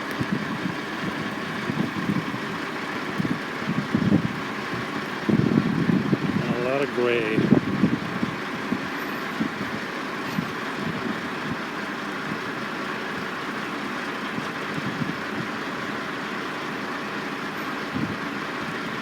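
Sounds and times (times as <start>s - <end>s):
truck and crane engines: 0.0s - 19.0s.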